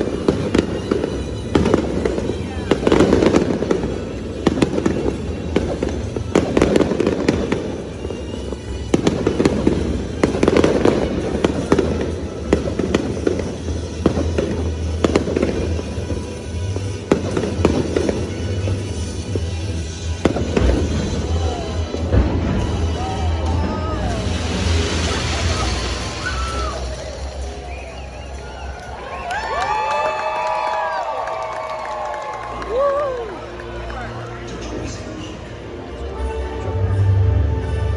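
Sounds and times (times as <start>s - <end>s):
fireworks bursting and crackling: 0.0s - 35.3s
music playing: 0.0s - 37.9s.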